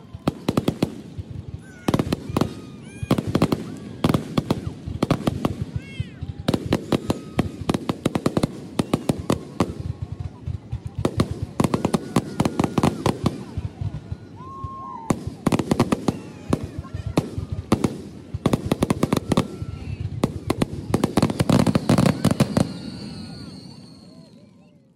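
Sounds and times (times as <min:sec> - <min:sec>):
fireworks bangs and crackles: 0:00.0 - 0:24.9
voices: 0:00.0 - 0:24.9.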